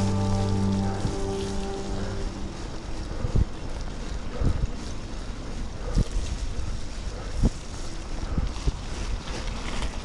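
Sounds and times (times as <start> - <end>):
bicycle tyres on wet gravel: 0.0 - 10.0
wind buffeting microphone: 0.0 - 10.0.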